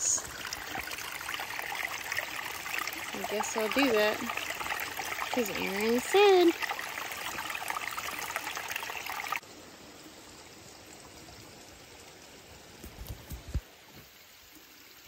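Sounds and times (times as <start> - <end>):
creek water running and splashing: 0.0 - 15.0.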